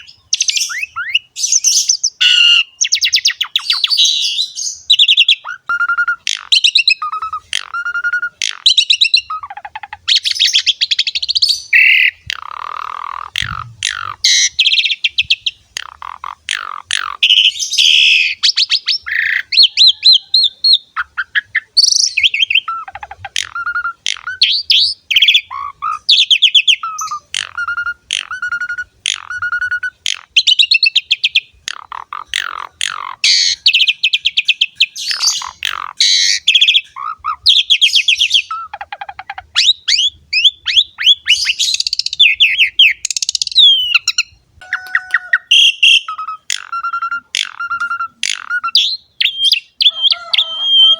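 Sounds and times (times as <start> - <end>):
starling singing: 0.0 - 50.9.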